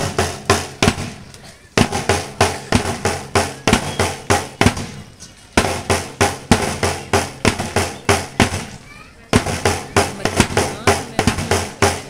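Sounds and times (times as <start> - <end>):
drum-heavy music over loudspeaker: 1.8 - 12.0.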